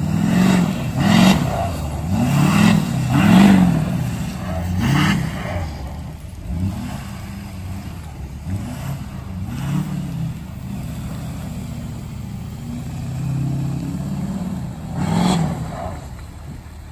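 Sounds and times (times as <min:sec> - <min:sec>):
truck engine revving: 0:00.0 - 0:16.9.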